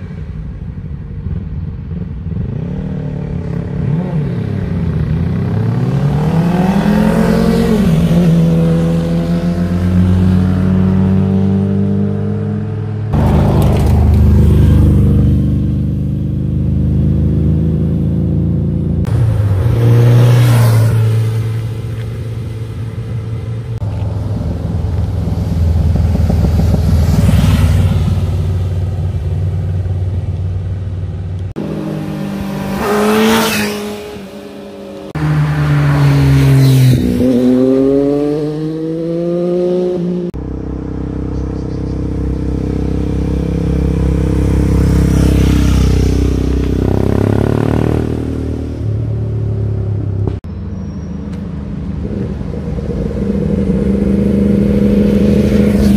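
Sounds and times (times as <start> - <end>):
motorcycles passing and revving: 0.0 - 55.9.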